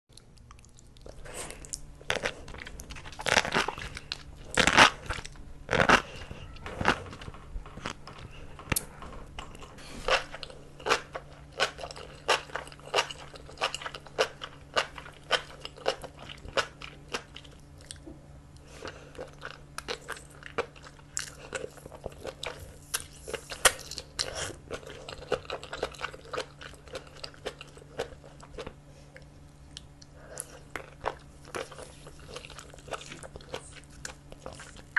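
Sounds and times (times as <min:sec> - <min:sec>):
crunchy chewing: 0:00.1 - 0:34.9
faint low hum: 0:00.1 - 0:34.9.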